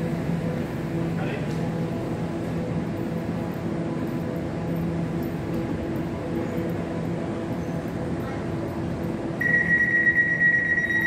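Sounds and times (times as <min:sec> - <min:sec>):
electric train humming: 0:00.0 - 0:11.0.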